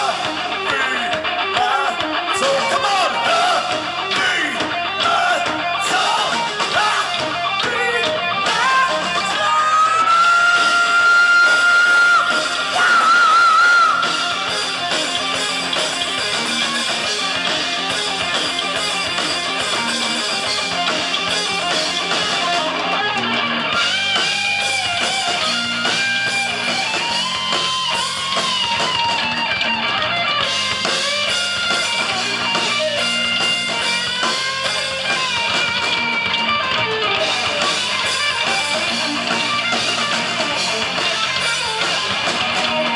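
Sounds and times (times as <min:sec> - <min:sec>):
heavy metal band playing live: 0:00.0 - 0:42.9.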